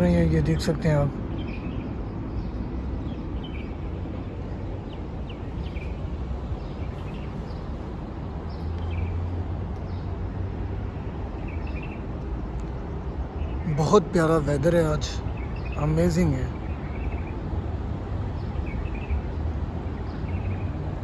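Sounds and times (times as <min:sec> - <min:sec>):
city background rumble: 0:00.0 - 0:21.0
small birds chirping: 0:00.0 - 0:21.0.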